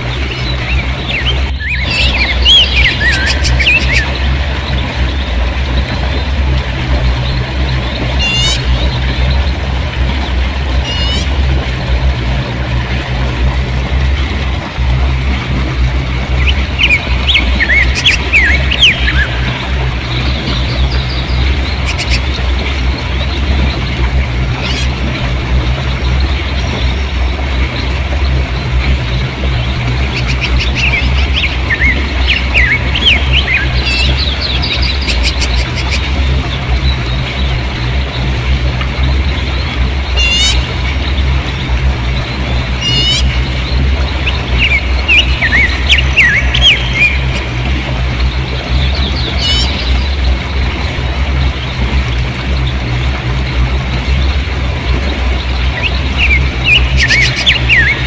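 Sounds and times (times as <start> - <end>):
river water rushing over rocks: 0.0 - 58.0
small birds chirping: 0.0 - 58.0.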